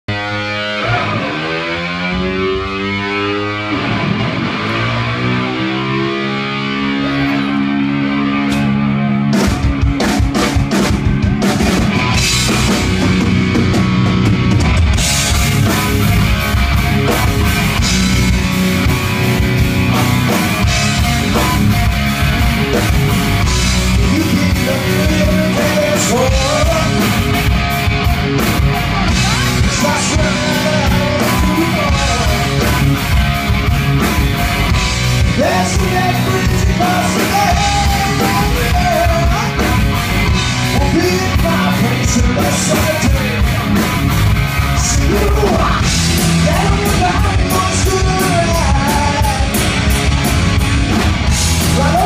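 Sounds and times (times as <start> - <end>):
electric guitar sliding in pitch: 0.1 - 9.6, 11.3 - 52.0
live rock band playing: 0.1 - 52.0
drum kit: 2.2 - 52.0.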